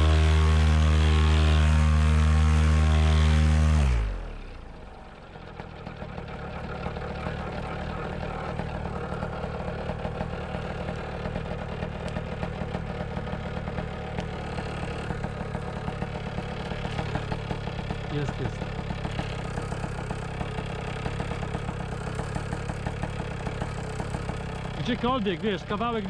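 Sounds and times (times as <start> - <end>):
paramotor engine idling: 0.0 - 26.0.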